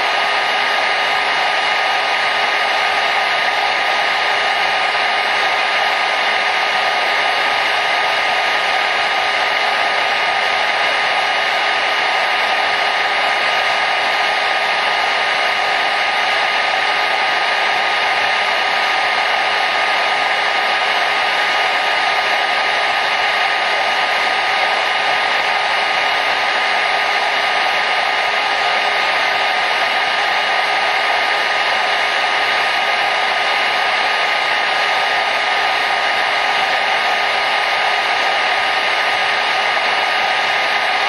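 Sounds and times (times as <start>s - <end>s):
hair dryer running: 0.0s - 41.0s.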